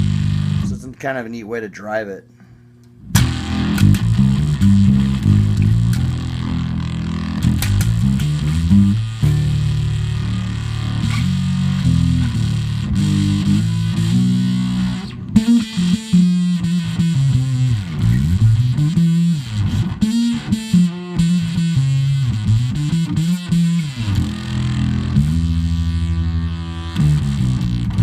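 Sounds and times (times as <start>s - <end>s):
distorted fuzz bass guitar: 0.0s - 1.4s, 3.0s - 28.0s.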